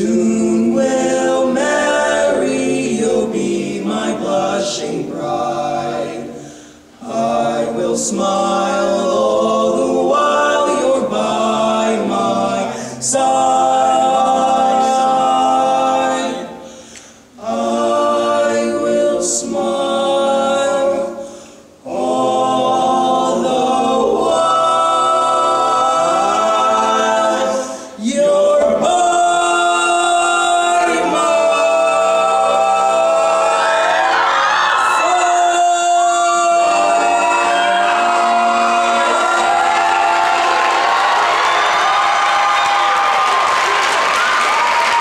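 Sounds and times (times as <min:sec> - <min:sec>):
male voices singing in harmony: 0:00.0 - 0:43.2.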